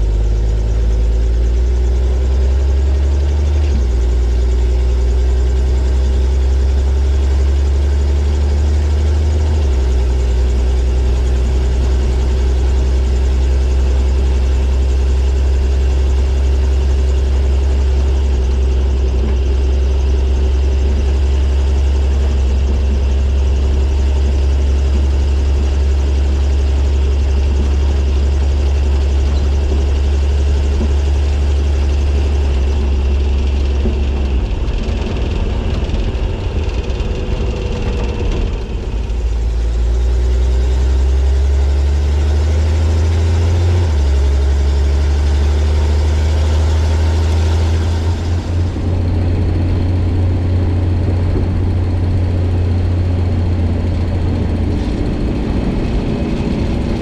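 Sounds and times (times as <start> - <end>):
truck engine droning: 0.0 - 57.0.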